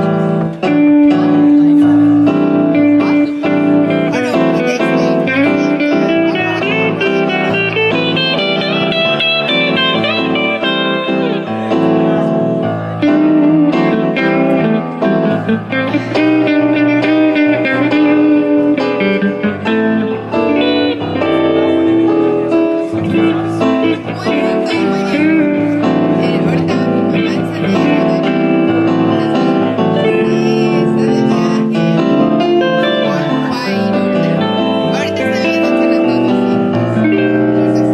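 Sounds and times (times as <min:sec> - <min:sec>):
electric guitar: 0:00.0 - 0:37.9
electric keyboard: 0:00.0 - 0:37.9.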